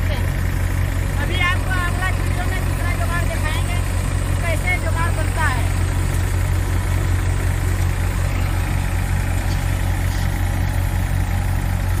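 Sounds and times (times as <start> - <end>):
thresher engine hum: 0.0 - 12.0.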